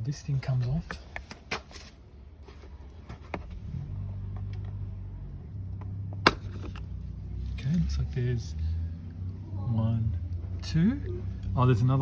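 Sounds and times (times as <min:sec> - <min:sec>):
low steady hum: 0:00.0 - 0:11.9.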